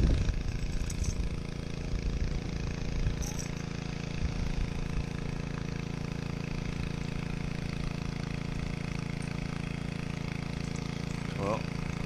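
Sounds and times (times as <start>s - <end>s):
engine-like hum idling: 0.0s - 12.0s.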